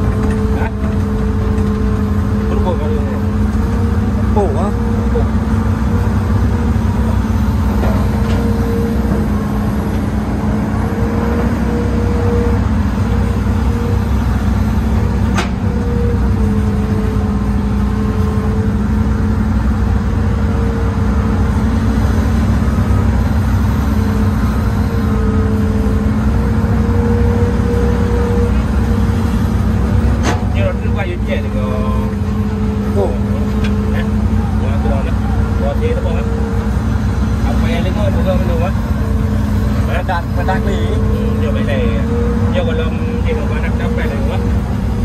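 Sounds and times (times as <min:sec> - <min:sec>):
excavator engine and hydraulics: 0:00.0 - 0:45.0.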